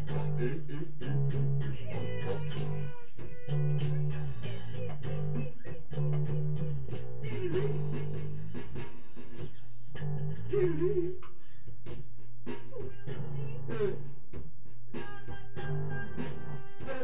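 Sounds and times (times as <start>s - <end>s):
low bass notes: 0.0s - 8.8s, 9.7s - 14.9s, 15.6s - 16.7s.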